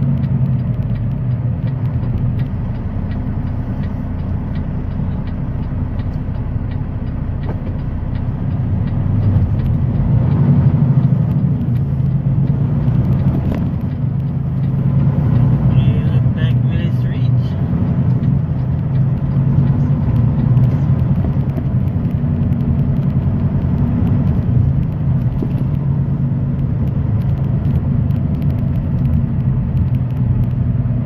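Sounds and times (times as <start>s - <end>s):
faint regular ticking: 0.0s - 31.0s
truck engine running: 0.0s - 31.0s.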